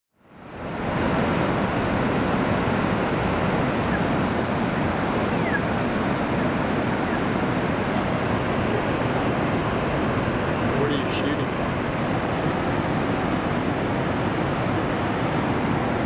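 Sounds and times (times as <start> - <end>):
distant waterfall rushing: 0.2 - 16.0.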